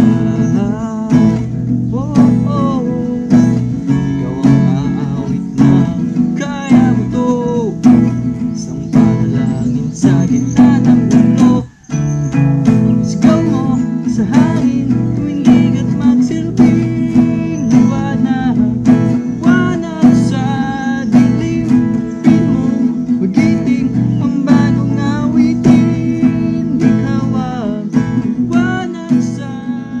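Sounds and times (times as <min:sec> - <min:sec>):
acoustic guitar playing: 0:00.0 - 0:30.0.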